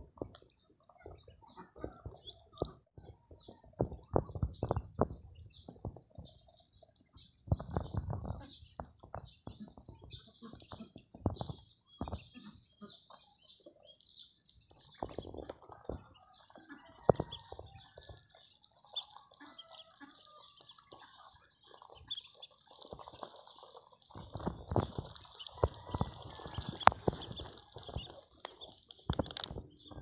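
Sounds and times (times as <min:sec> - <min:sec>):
bills pecking at feed: 0:00.0 - 0:30.0
ducklings peeping: 0:00.3 - 0:30.0.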